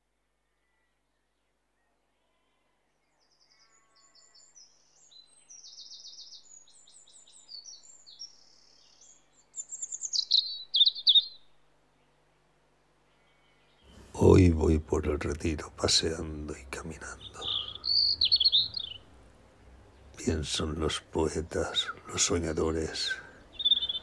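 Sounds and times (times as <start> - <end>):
songbird chirping and trilling: 0.5 - 12.3, 13.0 - 24.0.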